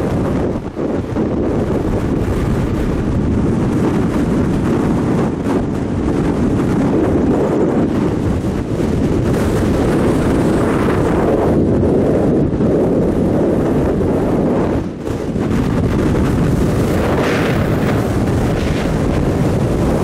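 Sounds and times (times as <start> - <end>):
strong wind on microphone: 0.0 - 20.0.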